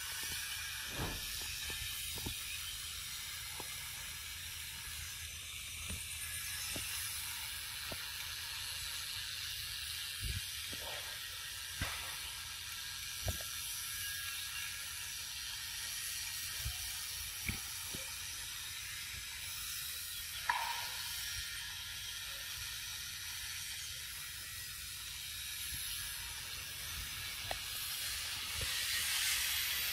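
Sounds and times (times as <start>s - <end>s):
forest ambience hiss: 0.0s - 29.9s.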